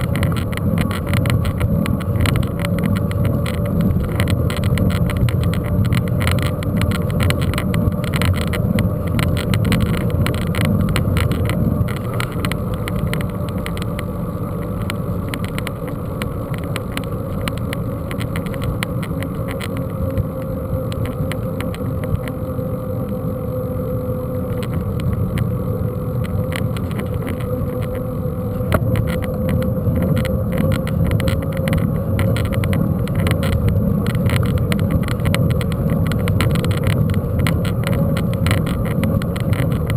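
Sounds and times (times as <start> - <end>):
faint steady whine: 0.0 - 39.9
mountain bike rumble: 0.0 - 39.9.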